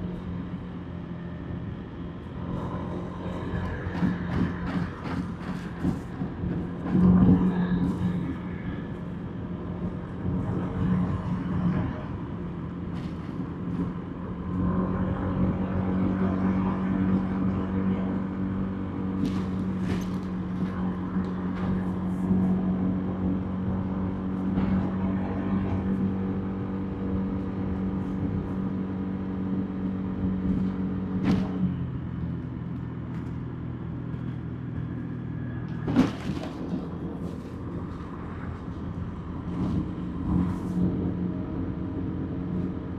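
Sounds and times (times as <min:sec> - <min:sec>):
road and wind noise: 0:00.0 - 0:42.9.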